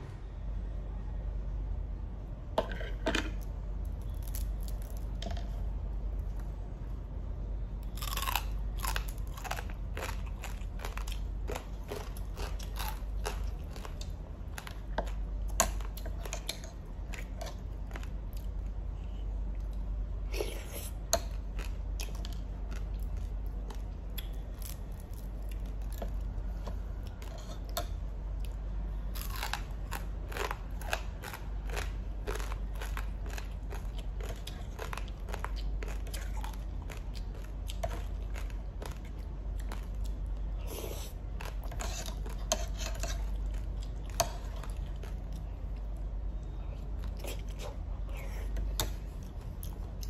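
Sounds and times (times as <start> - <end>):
steady low hum: 0.0 - 50.0
person chewing and crunching food: 3.9 - 5.3, 7.8 - 18.8, 19.5 - 50.0.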